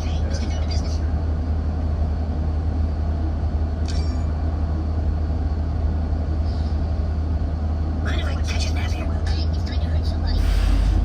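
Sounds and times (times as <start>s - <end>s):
bus rumbling in motion: 0.0s - 11.0s.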